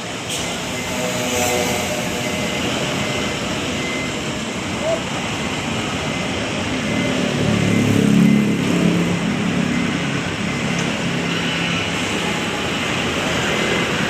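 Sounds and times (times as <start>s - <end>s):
traffic noise: 0.0s - 14.0s
vehicle engine: 0.0s - 14.0s.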